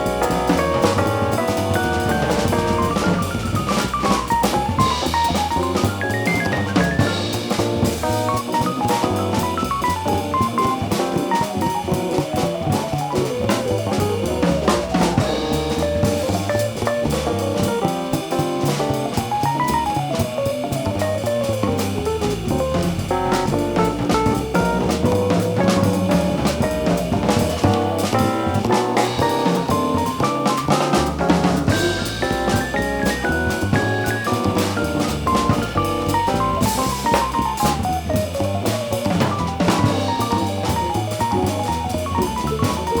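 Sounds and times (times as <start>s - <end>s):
bass line: 0.0s - 43.0s
drum kit: 0.0s - 43.0s
jazz melody of quick running notes: 0.0s - 43.0s.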